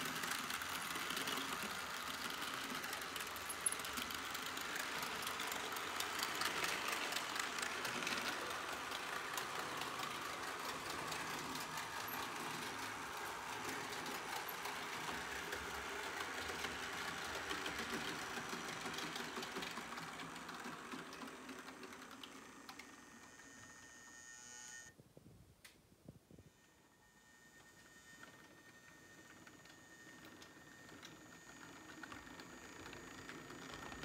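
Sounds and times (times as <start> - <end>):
model train wheels rattling: 0.0 - 23.2, 28.3 - 34.0.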